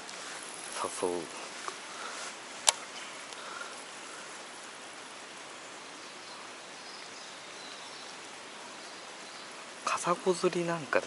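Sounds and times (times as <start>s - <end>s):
stream running water: 0.0s - 11.0s.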